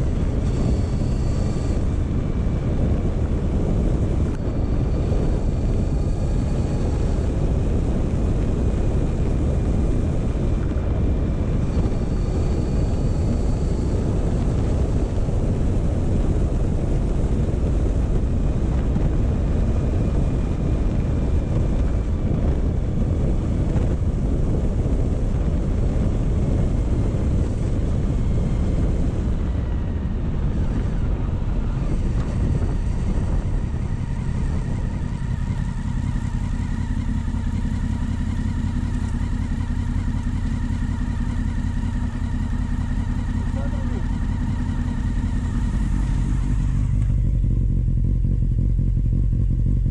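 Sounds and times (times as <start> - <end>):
motorcycle engine running: 0.0 - 49.9
wind on microphone: 0.0 - 49.9.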